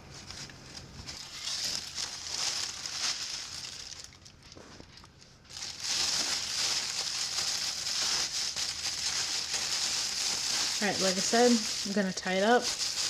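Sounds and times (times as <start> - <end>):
plastic bag crinkling: 0.3 - 13.0.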